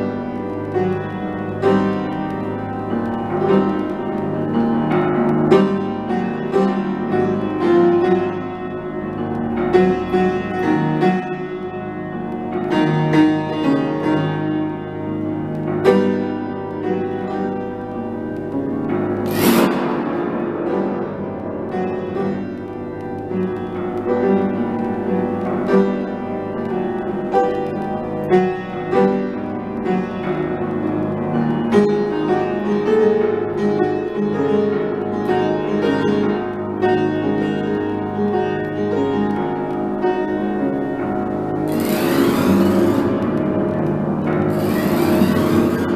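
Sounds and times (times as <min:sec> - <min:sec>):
piano playing: 0:00.0 - 0:45.9.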